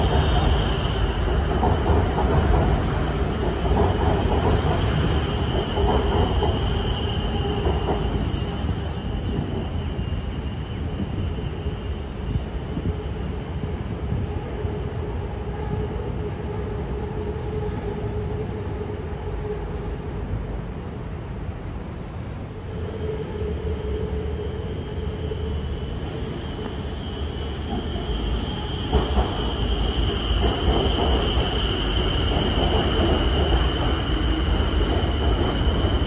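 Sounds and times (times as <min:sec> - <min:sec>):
electric train rumbling past: 0:00.0 - 0:36.0.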